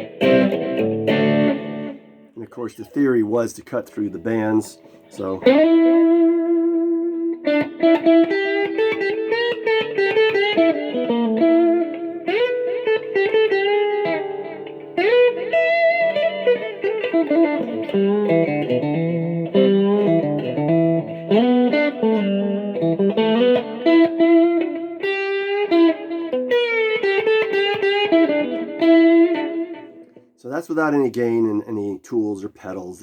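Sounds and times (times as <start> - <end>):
clean electric guitar strumming: 0.0 - 30.4.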